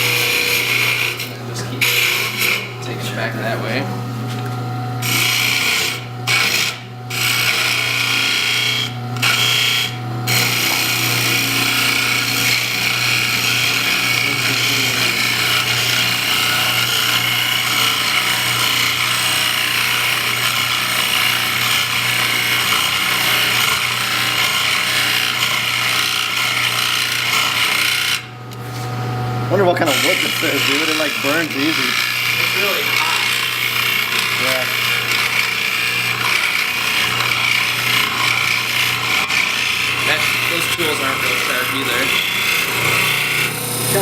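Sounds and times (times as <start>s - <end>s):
tool cutting wood on lathe: 0.0s - 28.9s, 29.5s - 44.0s
lathe motor hum: 0.0s - 44.0s.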